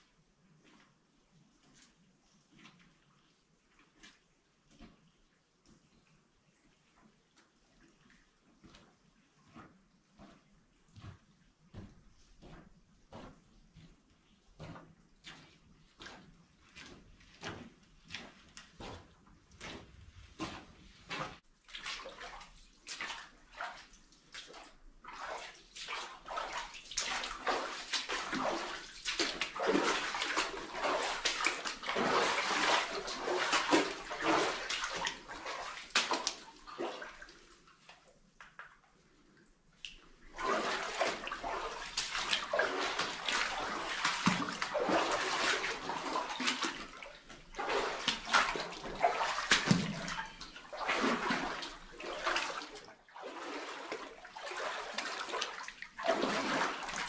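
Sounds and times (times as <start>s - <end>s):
water sloshing and splashing: 0.4s - 57.0s.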